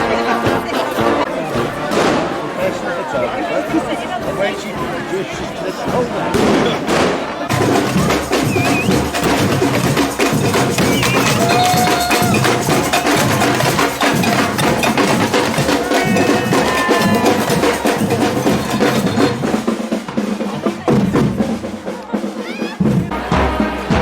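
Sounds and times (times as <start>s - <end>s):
drums beating: 0.0s - 24.0s
voices calling out: 0.0s - 24.0s.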